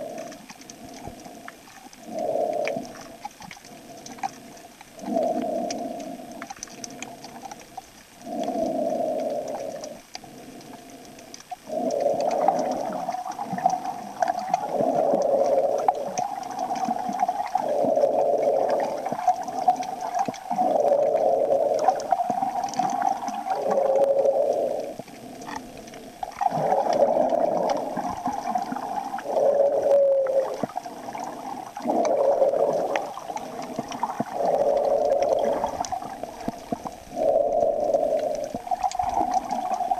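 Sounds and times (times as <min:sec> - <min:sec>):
muffled underwater noise: 0:00.0 - 0:39.9.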